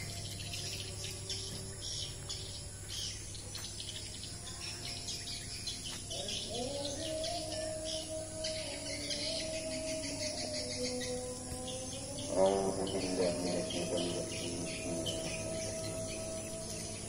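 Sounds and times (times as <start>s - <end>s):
droning tone: 0.0s - 17.0s
low hum: 0.0s - 17.0s.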